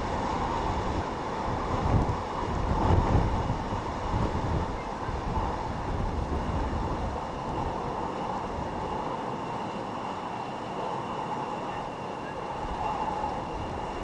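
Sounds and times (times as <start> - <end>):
distant jet engines droning: 0.0 - 14.0
gusty wind buffeting microphone: 0.0 - 14.0.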